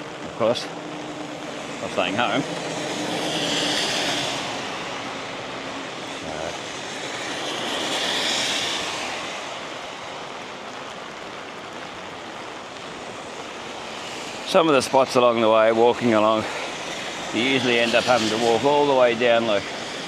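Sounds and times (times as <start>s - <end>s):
steady rain on street: 0.0s - 20.0s
vehicles hissing past on wet road: 0.0s - 20.0s.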